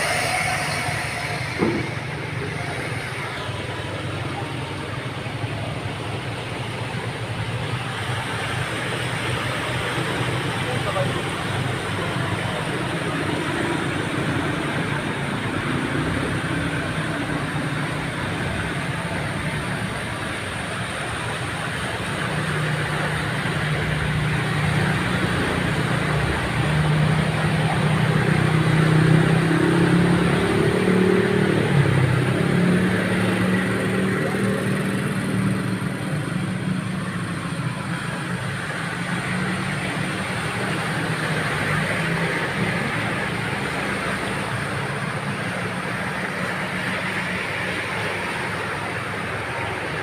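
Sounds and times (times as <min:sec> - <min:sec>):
motor vehicle engine running: 0:00.0 - 0:50.0
steady rushing noise: 0:00.0 - 0:50.0.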